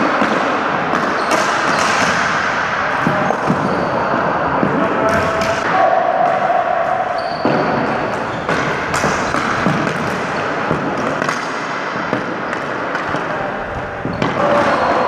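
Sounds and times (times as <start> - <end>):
hockey sticks and ball clacking: 0.0 - 15.0.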